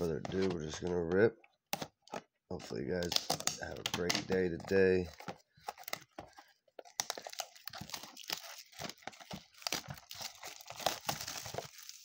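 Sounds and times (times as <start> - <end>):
plastic wrapping crinkling and tearing: 1.8 - 12.0.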